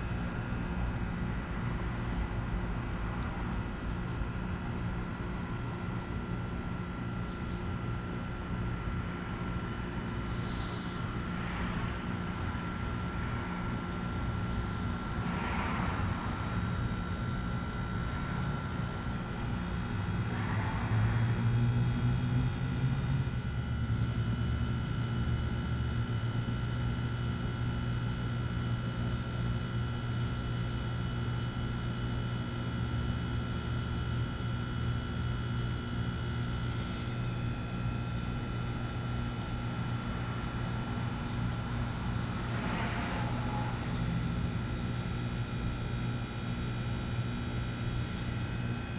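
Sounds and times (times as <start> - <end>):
heat pump compressor and fan hum: 0.0 - 48.9
thin steady whine: 0.0 - 48.9.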